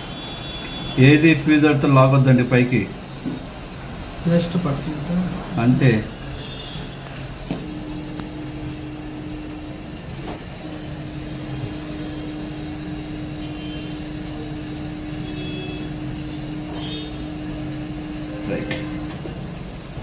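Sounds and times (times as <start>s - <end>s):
hot air station blowing: 0.0s - 20.0s.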